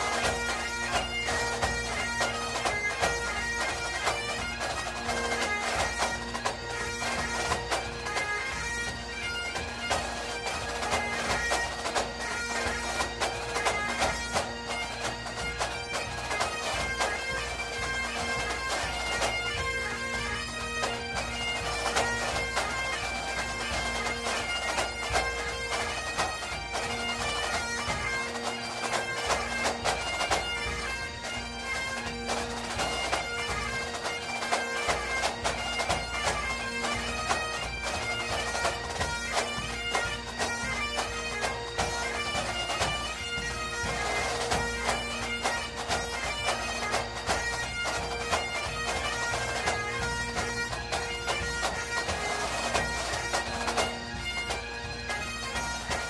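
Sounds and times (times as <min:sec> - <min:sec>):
bagpipe music: 0:00.0 - 0:56.0.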